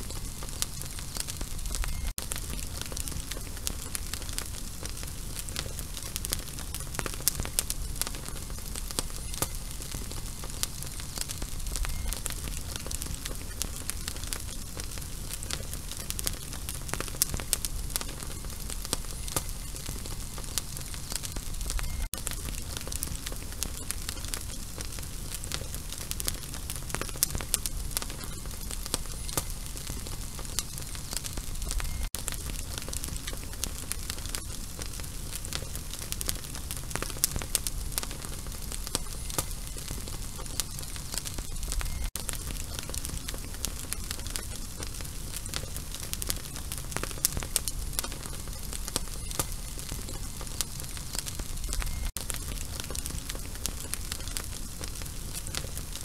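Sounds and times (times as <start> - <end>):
burning fuse sizzling: 0.0 - 56.0.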